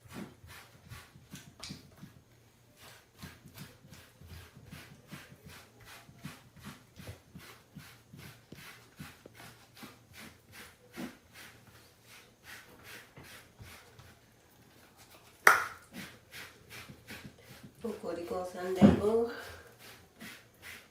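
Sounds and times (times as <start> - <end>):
brush stroking fur: 2.7 - 14.2, 14.8 - 20.9.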